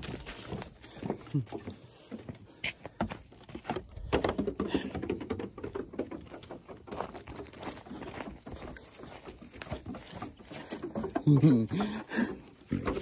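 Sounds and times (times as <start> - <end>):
goat hooves pattering and clicking: 0.0 - 13.0.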